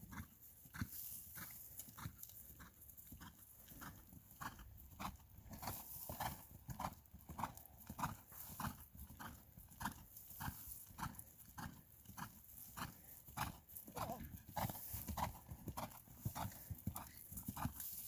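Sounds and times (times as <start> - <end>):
horse hoofbeats on grass: 0.0 - 18.0.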